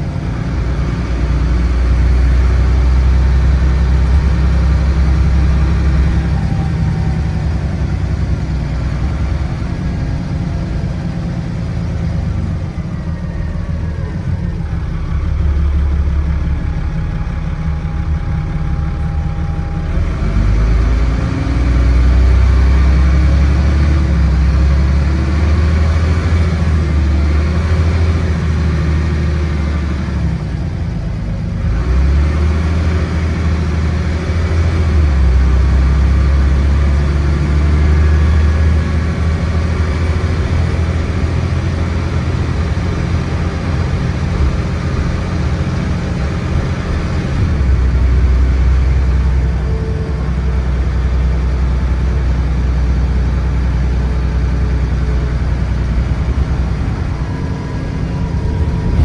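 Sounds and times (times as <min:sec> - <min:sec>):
bus diesel engine drone: 0:00.0 - 0:59.0.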